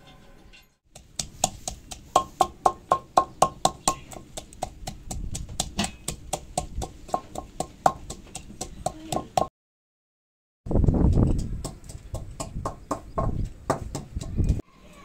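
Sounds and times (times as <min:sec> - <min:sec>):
pestle pounding in clay mortar: 0:00.9 - 0:09.5, 0:11.0 - 0:14.6.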